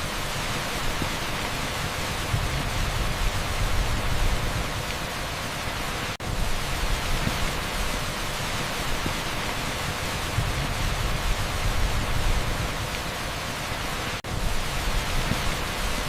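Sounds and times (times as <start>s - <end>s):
heavy rain on a street: 0.0s - 16.0s
pink noise: 0.0s - 16.0s.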